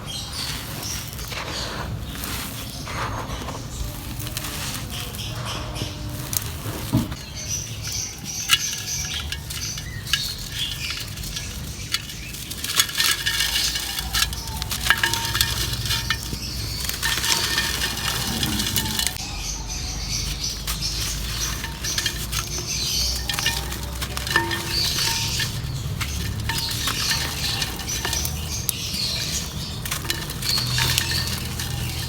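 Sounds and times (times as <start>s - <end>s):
dry clay crumbling crackles: 0.0s - 32.0s
fragments clinking against pot: 0.0s - 32.0s.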